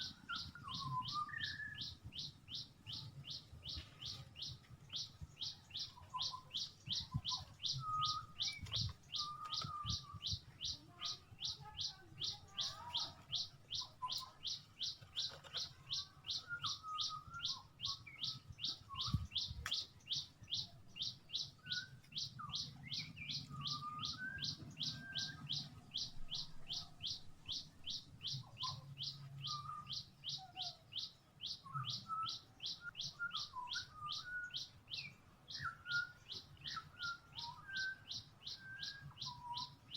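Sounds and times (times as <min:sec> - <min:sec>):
birds twittering: 0:00.0 - 0:39.9
small bird chirping: 0:00.0 - 0:39.9.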